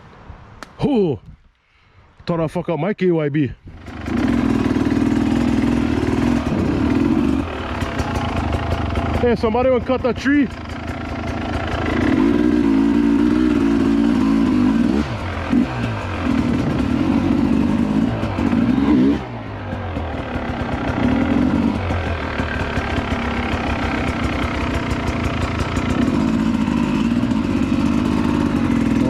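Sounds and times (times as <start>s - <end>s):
dirt bike engine revving: 3.7s - 29.0s.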